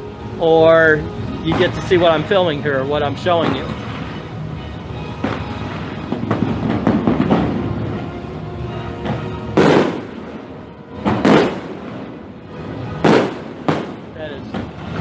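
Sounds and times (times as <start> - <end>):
fireworks exploding: 0.0 - 15.0
music soundtrack: 0.0 - 15.0.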